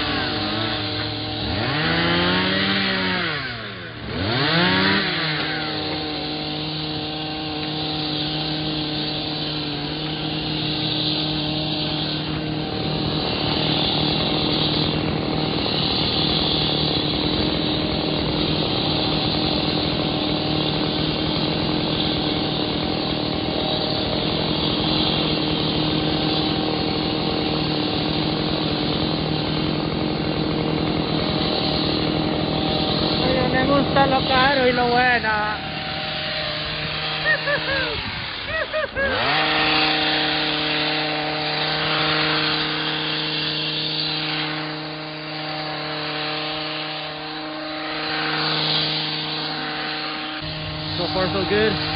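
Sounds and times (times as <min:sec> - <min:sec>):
chainsaw at full throttle: 0:00.0 - 0:51.9.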